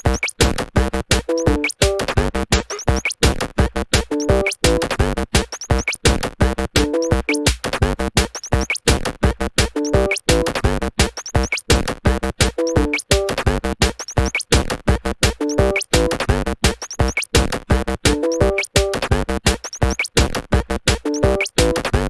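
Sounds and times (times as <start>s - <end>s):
drum-machine beat: 0.0s - 22.0s.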